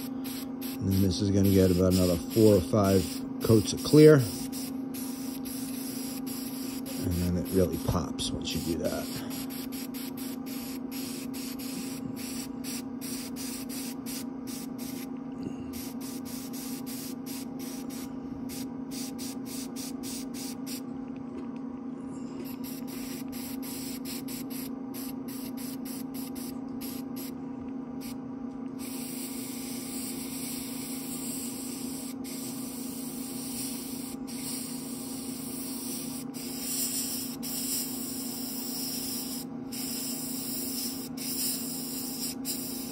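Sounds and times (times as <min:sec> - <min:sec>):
airbrush hissing: 0:00.0 - 0:15.1, 0:15.7 - 0:20.8, 0:22.5 - 0:27.4, 0:28.8 - 0:42.9.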